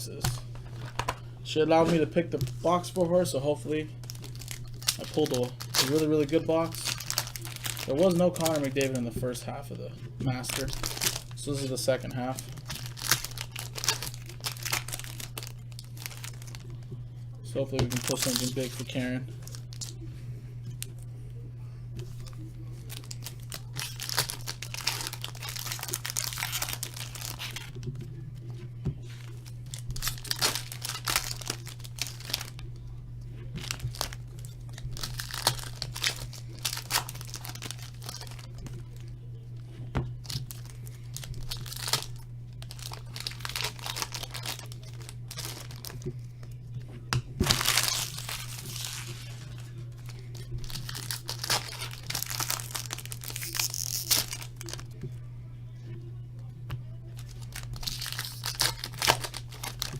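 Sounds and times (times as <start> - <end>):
low electrical hum: 0.0 - 59.9
card wrappers torn and crinkled: 0.1 - 16.8, 17.6 - 20.0, 22.1 - 32.8, 33.5 - 39.2, 40.1 - 46.5, 47.4 - 55.0, 57.1 - 59.9.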